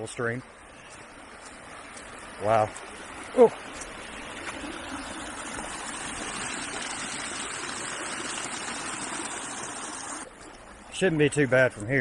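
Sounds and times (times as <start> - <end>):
stream water rushing: 0.0 - 11.8.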